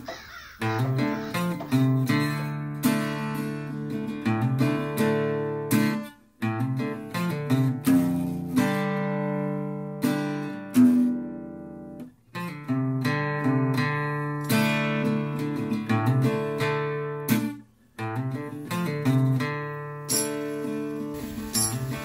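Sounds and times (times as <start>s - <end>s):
acoustic guitar strumming chords: 0.6s - 22.0s.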